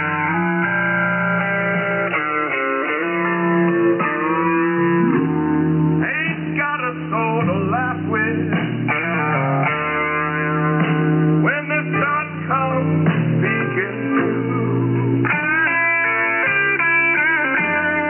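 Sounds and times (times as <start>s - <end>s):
thin rock music over shortwave radio: 0.0s - 18.0s.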